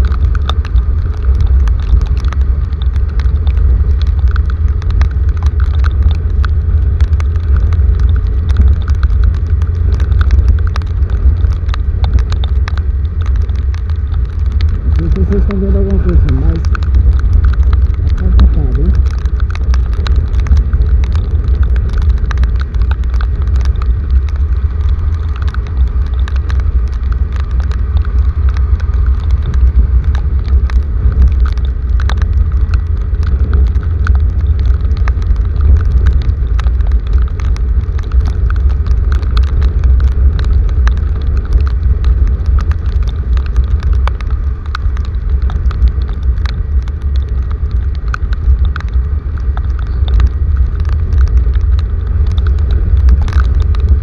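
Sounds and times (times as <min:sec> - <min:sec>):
deep rumble: 0:00.0 - 0:54.0
heavy rain: 0:00.0 - 0:54.0.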